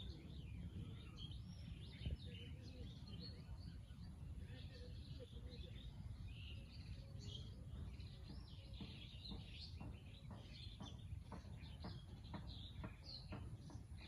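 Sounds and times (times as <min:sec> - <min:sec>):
birds chirping and twittering: 0:00.0 - 0:14.0.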